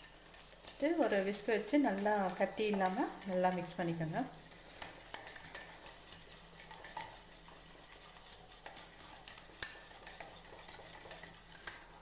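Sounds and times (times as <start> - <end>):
whisk wires ticking on bowl: 0.0 - 11.9
whisk scraping a steel bowl: 0.0 - 12.0.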